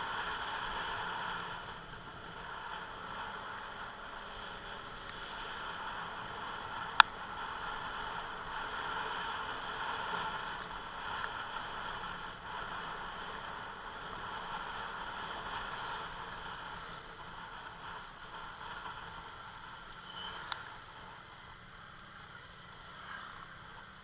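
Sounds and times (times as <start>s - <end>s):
motor scooter running: 0.0s - 24.0s.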